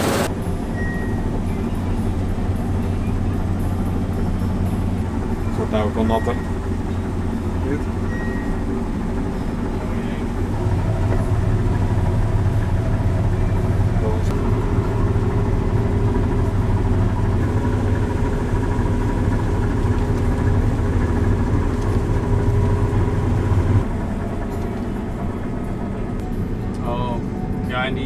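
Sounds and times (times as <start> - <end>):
combine harvester droning: 0.0 - 28.0.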